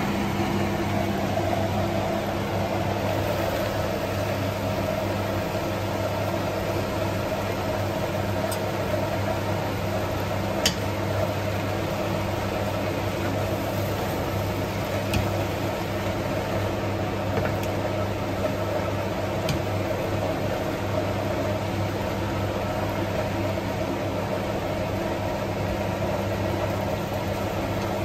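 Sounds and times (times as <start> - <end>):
food sizzling in a pan: 3.0 - 28.0.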